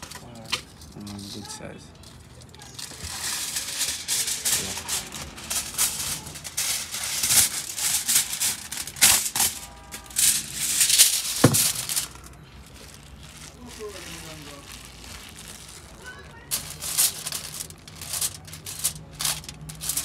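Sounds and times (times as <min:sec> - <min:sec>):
foil crinkling and rustling: 0:00.0 - 0:20.0.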